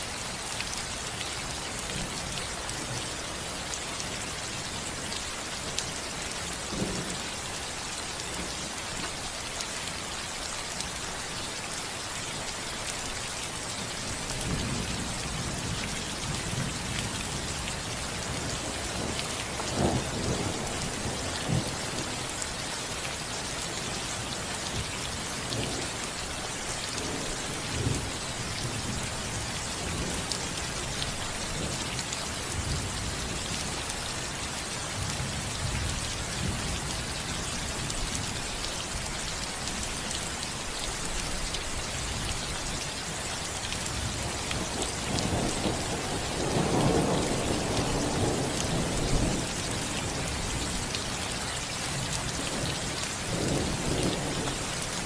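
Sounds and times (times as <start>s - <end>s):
rain pattering on a roof: 0.0s - 55.0s.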